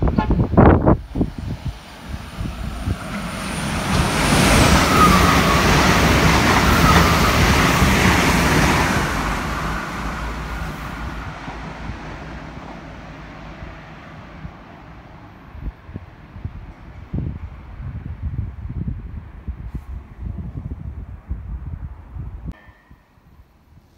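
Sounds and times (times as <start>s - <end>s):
diesel train passing at speed: 0.0s - 22.6s.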